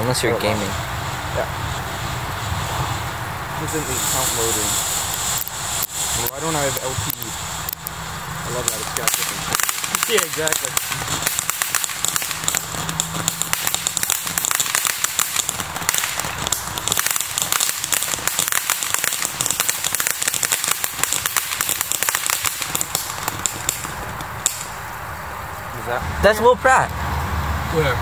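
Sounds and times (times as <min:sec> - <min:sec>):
firework fountain hissing and crackling: 0:00.0 - 0:28.0.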